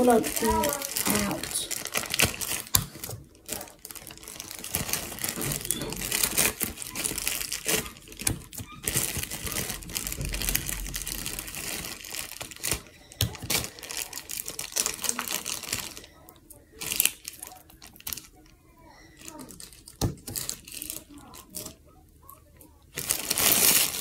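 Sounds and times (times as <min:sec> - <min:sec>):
plastic bag crinkling: 0:00.0 - 0:18.5, 0:19.1 - 0:21.8, 0:22.5 - 0:24.0.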